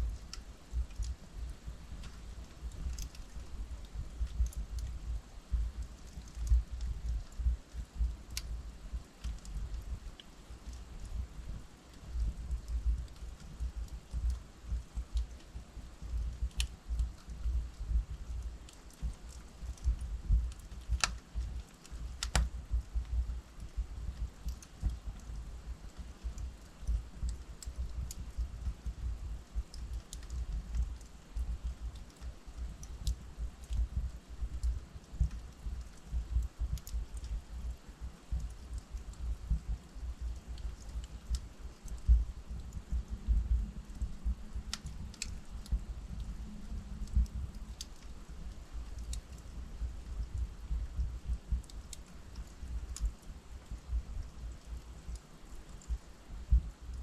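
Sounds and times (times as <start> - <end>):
log fire crackling and popping: 0.0 - 57.0
low fire rumble: 0.0 - 57.0.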